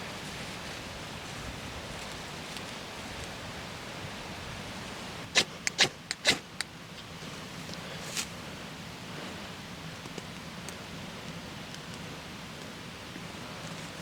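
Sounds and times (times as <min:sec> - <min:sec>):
outdoor hiss: 0:00.0 - 0:14.0.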